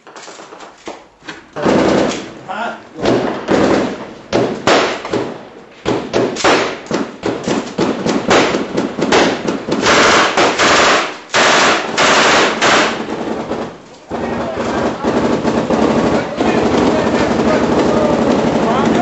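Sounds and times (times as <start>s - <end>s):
automatic gunfire: 1.6s - 2.4s, 3.0s - 19.0s.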